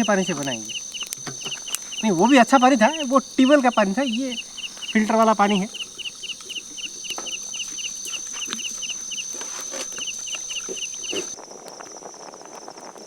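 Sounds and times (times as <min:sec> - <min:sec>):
fast insect pulsing: 0:00.0 - 0:11.4
rhythmic insect chirping: 0:00.0 - 0:11.4
insect drone: 0:00.0 - 0:13.0.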